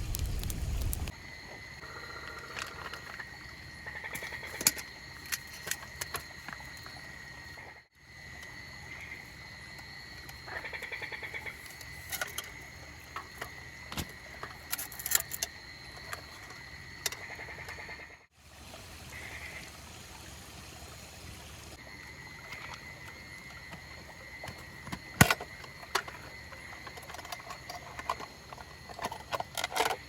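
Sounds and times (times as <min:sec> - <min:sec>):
insects high-pitched drone: 0:00.0 - 0:18.3, 0:21.7 - 0:30.0.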